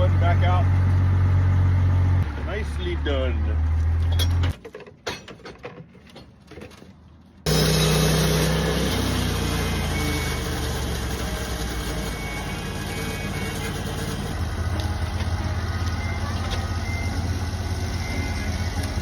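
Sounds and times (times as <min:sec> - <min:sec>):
sawmill engine running: 0:00.0 - 0:04.5, 0:07.5 - 0:19.0.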